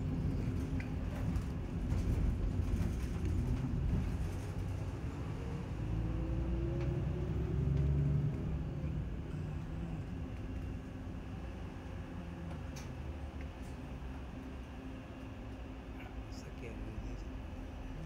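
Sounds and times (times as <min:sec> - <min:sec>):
bus engine and road rumble: 0:00.0 - 0:18.0
rising engine whine: 0:02.2 - 0:18.0.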